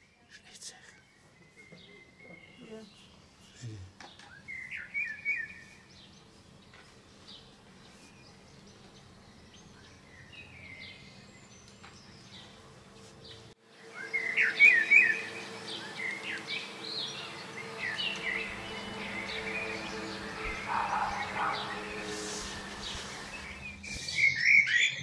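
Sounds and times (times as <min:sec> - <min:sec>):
blackbird singing: 0:00.0 - 0:06.4, 0:07.2 - 0:12.6, 0:13.2 - 0:25.0.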